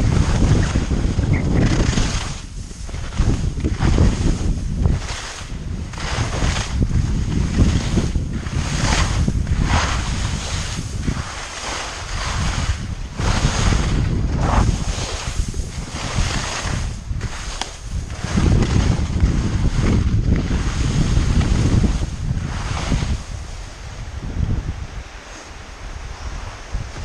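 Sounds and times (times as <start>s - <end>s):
skis scraping over snow: 0.0s - 27.0s
wind buffeting microphone: 0.0s - 27.0s.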